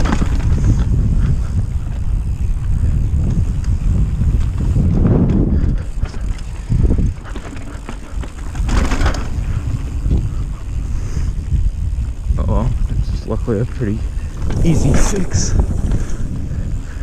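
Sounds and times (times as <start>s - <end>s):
bike tyres rumbling on dirt: 0.0s - 17.0s
wind buffeting microphone: 0.0s - 17.0s.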